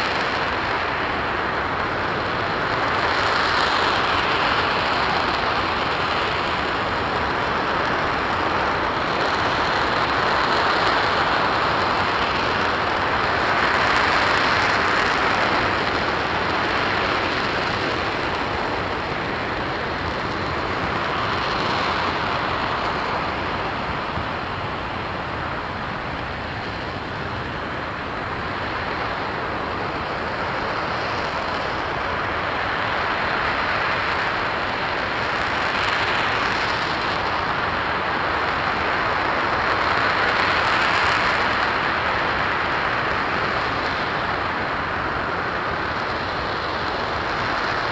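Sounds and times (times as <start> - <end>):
rocket engine roaring: 0.0 - 47.9.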